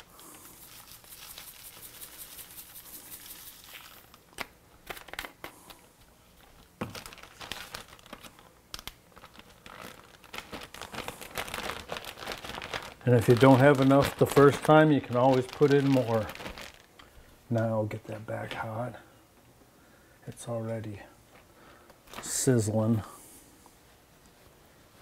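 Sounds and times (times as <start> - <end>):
plastic bag crinkling and rustling: 0.0 - 18.9, 21.4 - 22.9.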